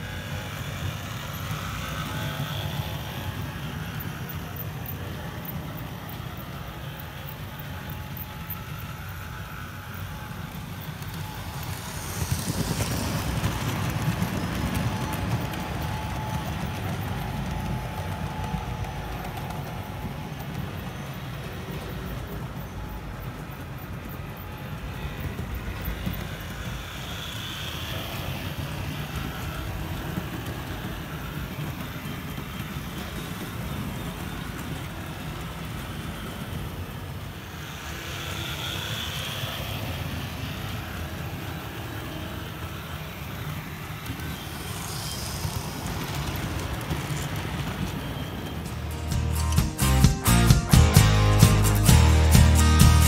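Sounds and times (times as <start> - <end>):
model train rumbling on track: 0.0 - 53.0.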